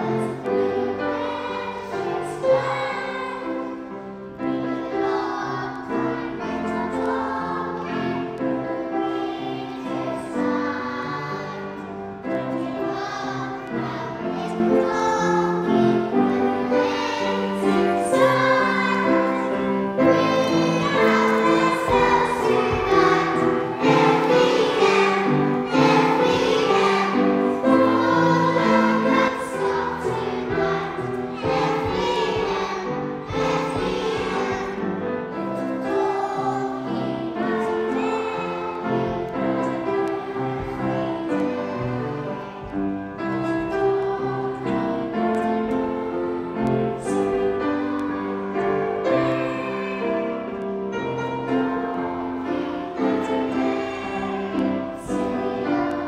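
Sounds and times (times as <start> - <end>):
children's choir singing: 0.0 - 56.0.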